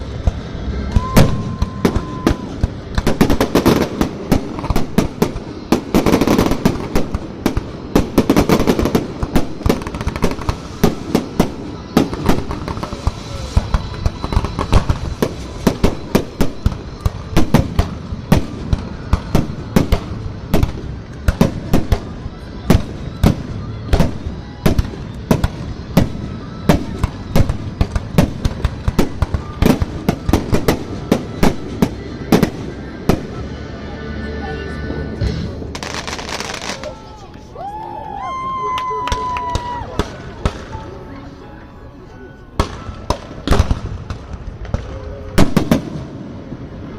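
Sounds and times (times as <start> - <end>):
fireworks bursts and crackles: 0.0 - 34.0, 34.7 - 46.9.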